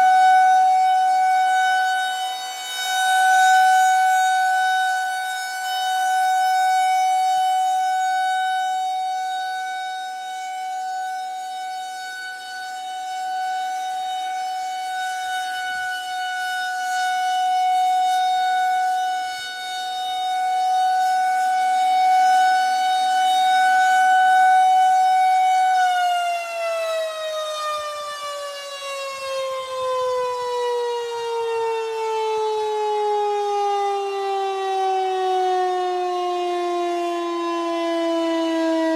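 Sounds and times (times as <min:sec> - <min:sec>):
outdoor warning siren: 0:00.0 - 0:38.9.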